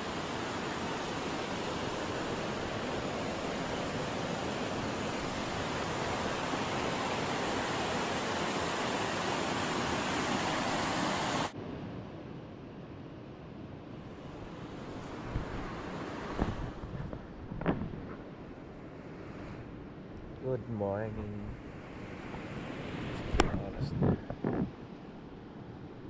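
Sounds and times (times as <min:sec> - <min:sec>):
steady rushing noise: 0:00.0 - 0:12.6, 0:13.7 - 0:25.3.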